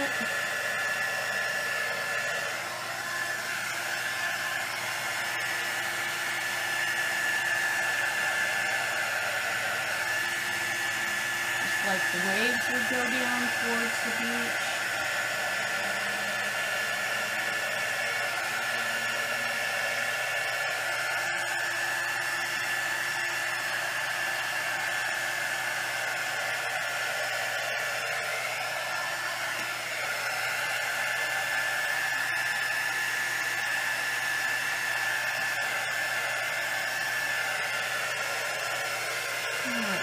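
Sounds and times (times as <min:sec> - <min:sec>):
heat gun whining: 0:00.0 - 0:40.0.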